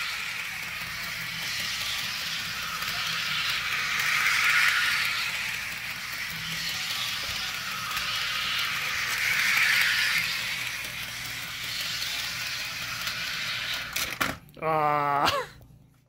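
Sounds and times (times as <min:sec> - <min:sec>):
model train running on track: 0:00.0 - 0:14.3.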